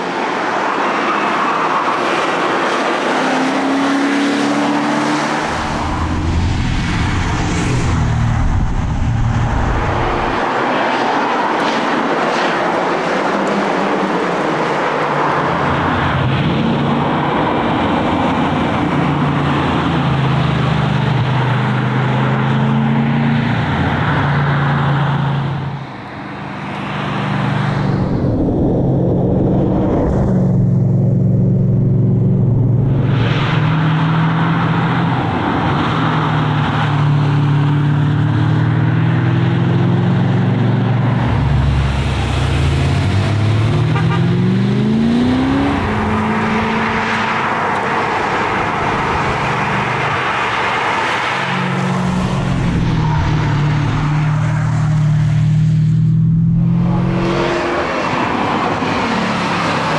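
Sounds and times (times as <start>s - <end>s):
car engine driven hard: 0.0s - 59.9s
road and tyre noise: 0.0s - 59.9s.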